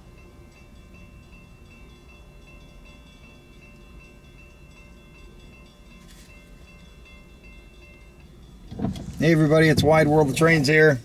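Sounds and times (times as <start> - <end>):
crossing warning bell ringing: 0.0 - 11.0.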